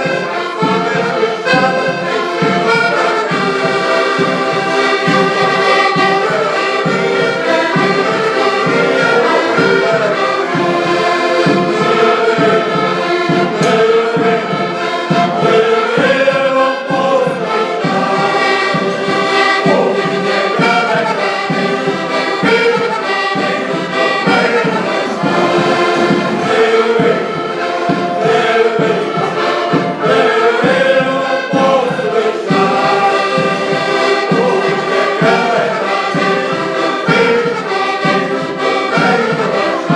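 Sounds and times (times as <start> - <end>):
group of voices singing: 0.0 - 39.9
instrumental accompaniment: 0.0 - 39.9.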